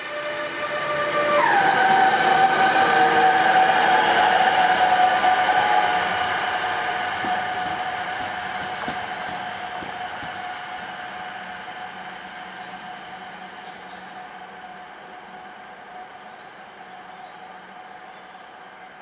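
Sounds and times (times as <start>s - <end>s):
electric locomotive whine: 0.0s - 19.0s.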